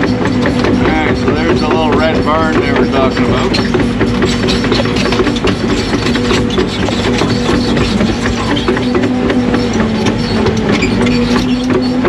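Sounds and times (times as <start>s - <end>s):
diesel engine running: 0.0s - 12.0s
rattling metal clicks and knocks: 0.0s - 12.0s.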